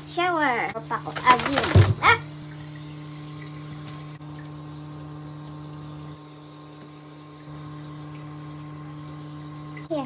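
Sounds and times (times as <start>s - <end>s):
shower water running into bathtub: 0.0s - 10.0s.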